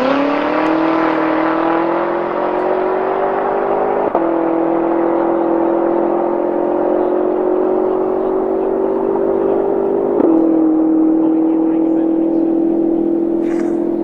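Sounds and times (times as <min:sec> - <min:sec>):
car engine revving hard: 0:00.0 - 0:14.0.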